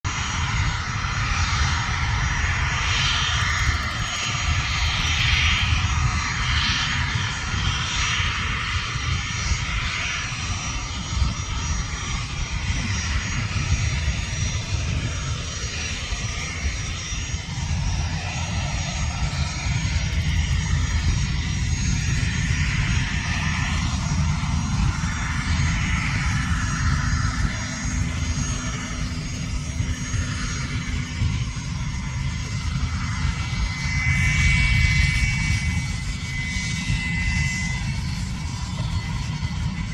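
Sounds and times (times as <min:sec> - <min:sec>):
jet taxiing: 0:00.1 - 0:39.9.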